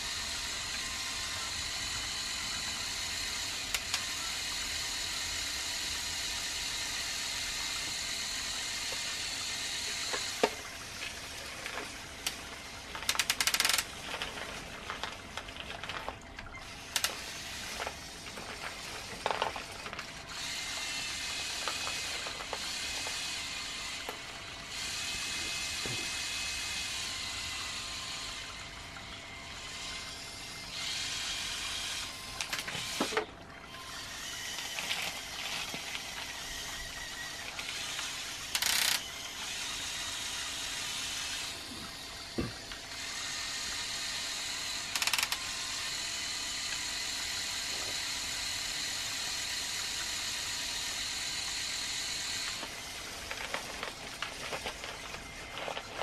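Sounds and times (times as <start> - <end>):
small electric motors whirring: 0.0 - 56.0.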